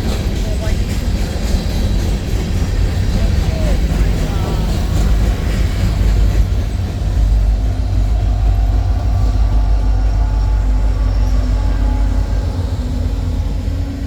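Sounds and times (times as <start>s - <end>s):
train rolling past rumbling: 0.0s - 14.0s.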